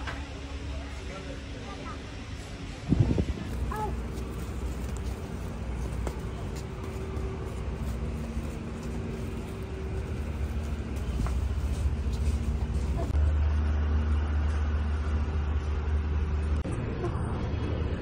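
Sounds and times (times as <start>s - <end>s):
road vehicle rumble: 0.0s - 18.0s.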